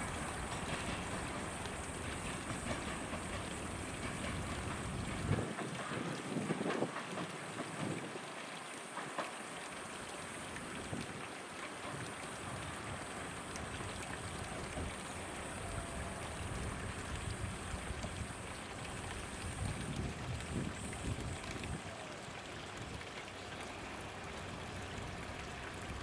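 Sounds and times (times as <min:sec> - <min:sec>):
distant electric train rumbling: 0:00.0 - 0:22.2, 0:23.6 - 0:26.0
outdoor hiss: 0:00.0 - 0:26.0.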